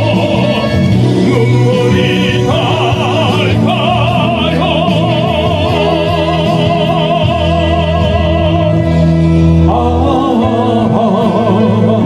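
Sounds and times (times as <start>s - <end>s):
man singing operatically: 0.0s - 12.0s
musical accompaniment: 0.0s - 12.0s.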